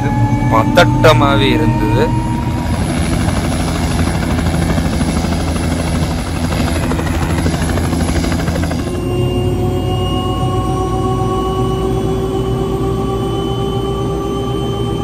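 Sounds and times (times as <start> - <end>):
helicopter turbine and rotor running: 0.0 - 15.0.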